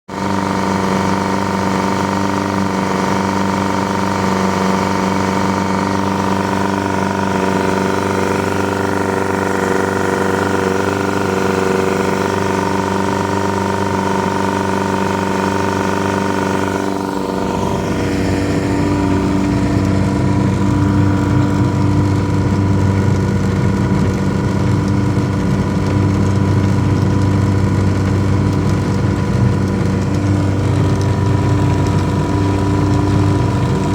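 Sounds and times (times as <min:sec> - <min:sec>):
outboard motor running: 0:00.0 - 0:33.9.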